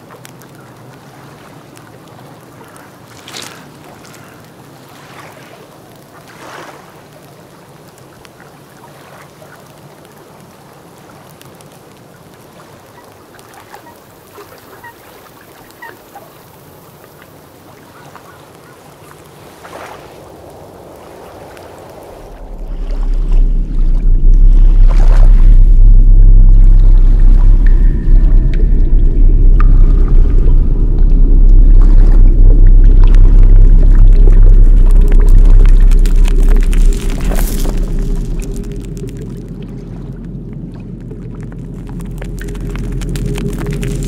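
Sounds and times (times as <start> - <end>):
rain on wet ground: 0.0 - 44.0.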